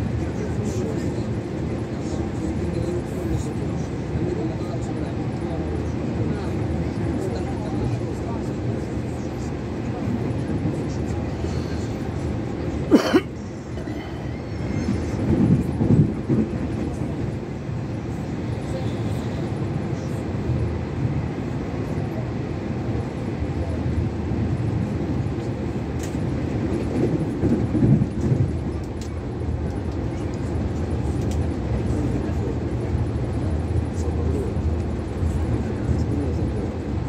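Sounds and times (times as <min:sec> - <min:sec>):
train rumble inside carriage: 0:00.0 - 0:37.0.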